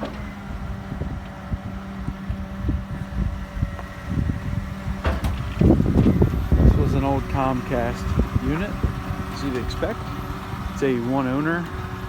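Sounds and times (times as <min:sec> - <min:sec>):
truck engine idling: 0:00.0 - 0:12.0
wind buffeting microphone: 0:00.0 - 0:12.0.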